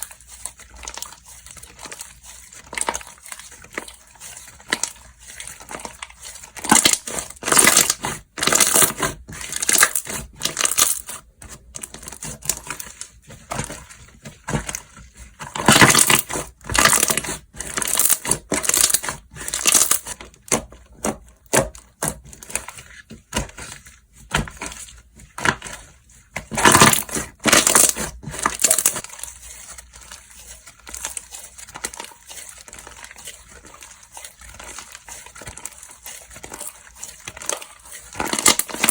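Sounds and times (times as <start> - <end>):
slime squelching by hand: 0.0 - 38.9.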